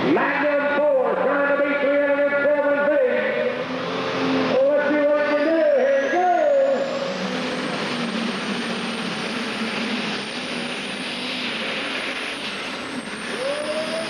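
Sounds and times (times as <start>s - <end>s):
diesel engine running under load: 0.0s - 14.0s
high turbo whine: 0.0s - 14.0s.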